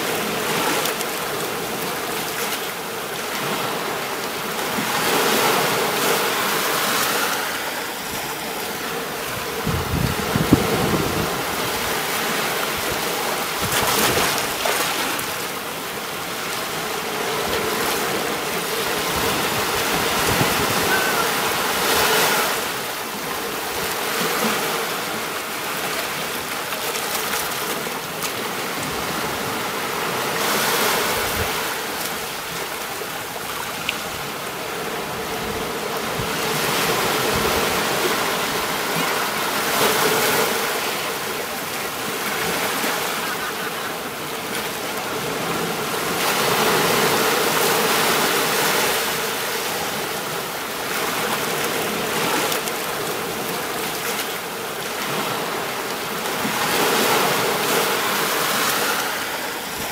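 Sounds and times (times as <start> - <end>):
sea waves washing onto beach: 0.0 - 59.9.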